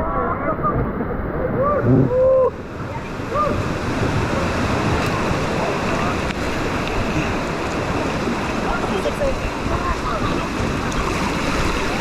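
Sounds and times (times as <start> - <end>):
river water rushing: 0.4 - 12.0.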